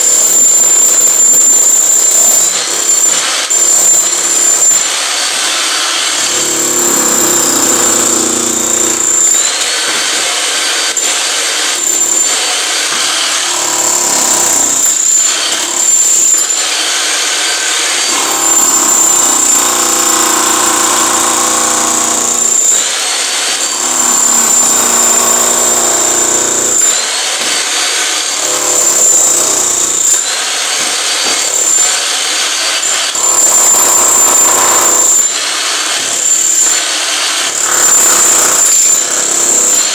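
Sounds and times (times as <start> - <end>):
demolition hammer chiselling concrete: 0.0 - 39.9.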